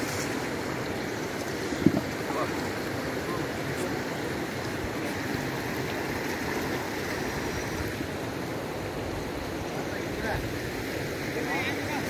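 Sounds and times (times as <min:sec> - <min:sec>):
river water running over rocks: 0:00.0 - 0:12.0.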